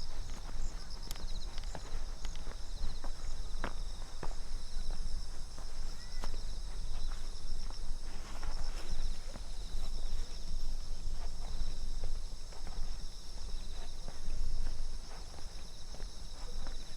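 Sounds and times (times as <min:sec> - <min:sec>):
crickets chirping: 0:00.0 - 0:16.9
footsteps crunching on path: 0:00.0 - 0:16.9.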